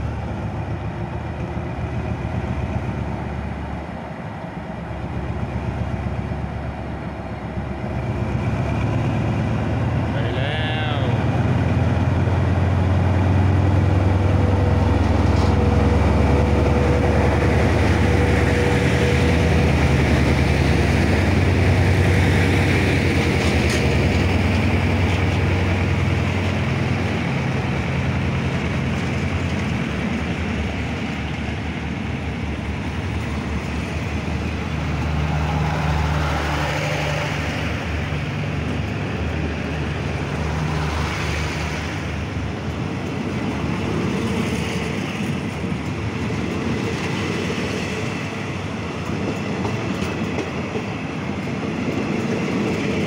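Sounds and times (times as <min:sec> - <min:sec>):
coaches rumbling on rails: 0:00.0 - 0:53.0
locomotive engine drone: 0:00.0 - 0:53.0.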